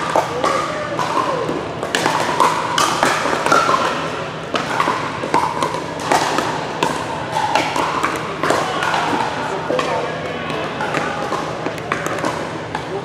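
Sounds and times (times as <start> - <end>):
paddles hitting plastic ball: 0.0 - 13.0.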